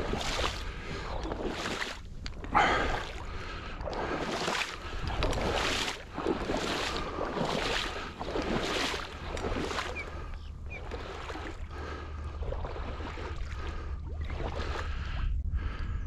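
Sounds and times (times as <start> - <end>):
water sloshing and splashing: 0.0 - 15.7
wind rumbling on microphone: 0.0 - 16.0.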